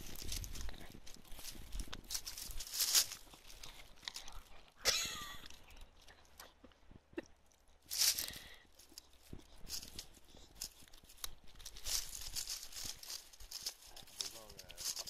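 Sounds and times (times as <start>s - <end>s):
dog chewing and crunching bone: 0.0s - 15.0s.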